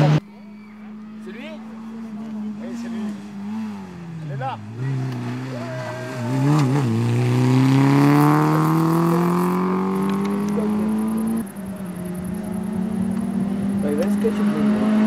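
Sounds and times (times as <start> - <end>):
rally car engine accelerating: 0.0 - 0.2, 1.0 - 15.0.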